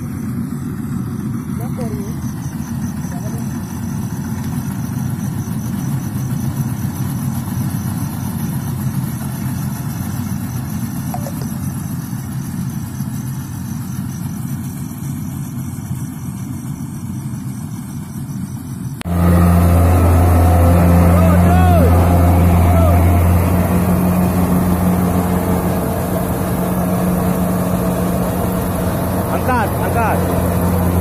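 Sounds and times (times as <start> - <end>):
harvester engine running: 0.0 - 18.3, 19.0 - 31.0.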